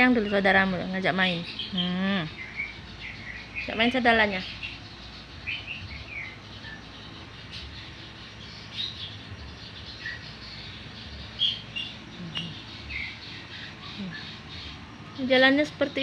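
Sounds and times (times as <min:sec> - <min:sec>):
low steady background: 0:00.0 - 0:16.0
small birds chirping: 0:00.0 - 0:16.0.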